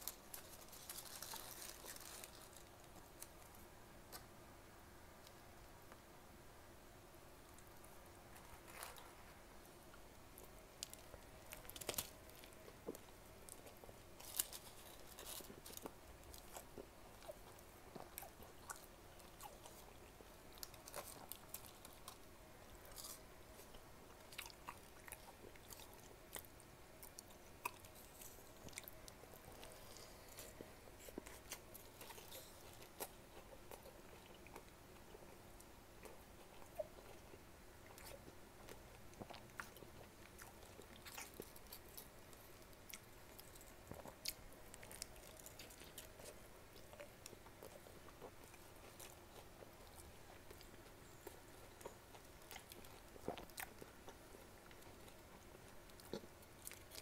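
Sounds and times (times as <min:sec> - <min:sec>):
chewing with crunches: 0:00.0 - 0:04.3, 0:07.6 - 0:57.0.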